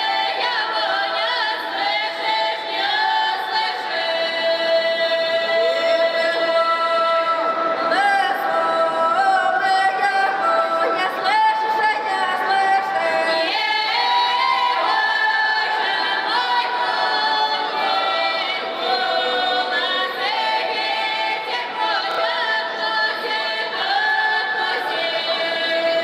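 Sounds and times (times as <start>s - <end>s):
women singing unaccompanied: 0.0s - 26.0s.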